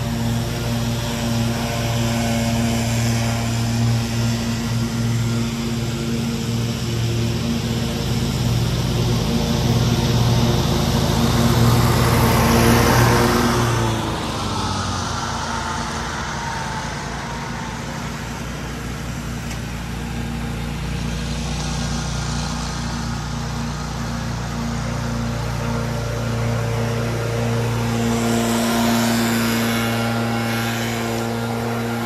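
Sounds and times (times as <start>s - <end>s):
mower engine running: 0.0s - 32.0s
quiet small engine running: 0.0s - 32.0s.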